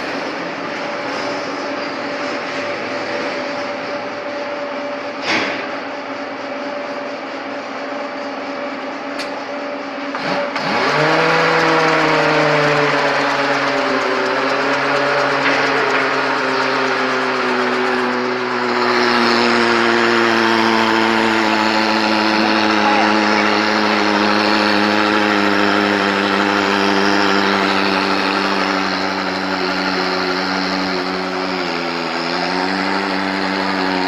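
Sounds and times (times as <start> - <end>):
machine motor whine: 0.0 - 34.0.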